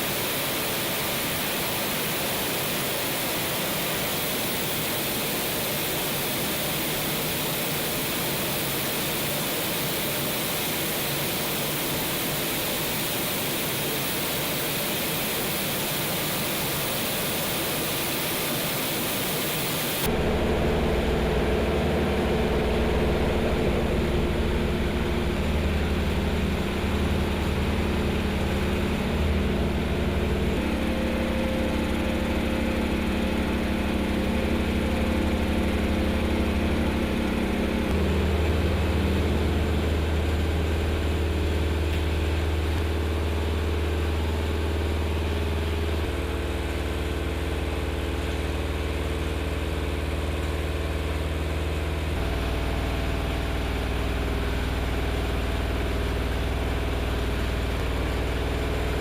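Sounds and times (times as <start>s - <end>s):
machinery droning: 0.0s - 59.0s.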